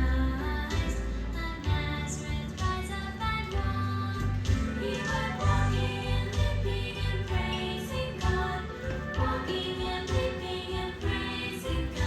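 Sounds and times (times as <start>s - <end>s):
recorded music with singing: 0.0s - 12.0s
steady bass beat: 0.0s - 12.0s.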